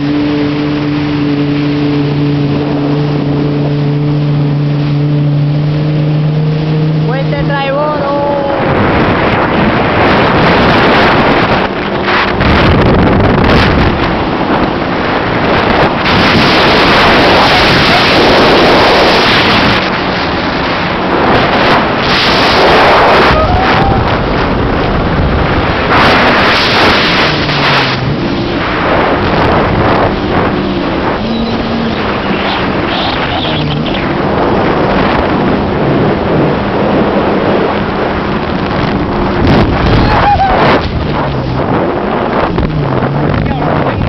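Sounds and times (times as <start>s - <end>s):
jet ski engine: 0.0s - 44.0s
wind buffeting microphone: 0.0s - 44.0s.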